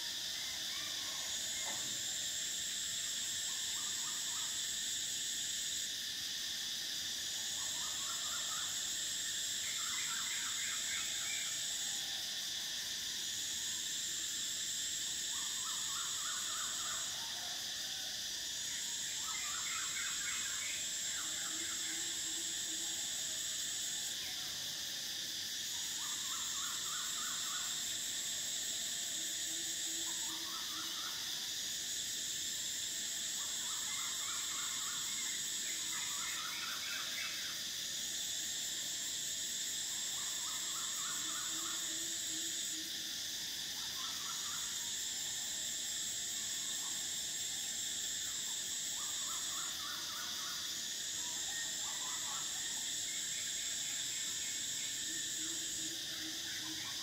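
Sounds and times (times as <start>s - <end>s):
cicadas droning: 0.0s - 57.0s
higher cicada buzz: 0.0s - 57.0s.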